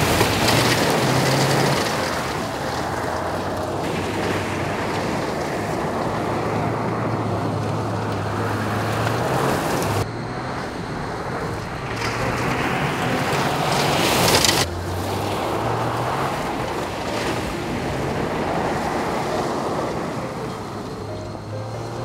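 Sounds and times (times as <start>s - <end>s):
car engine running hard: 0.0s - 22.0s
tyres spraying gravel: 0.0s - 22.0s.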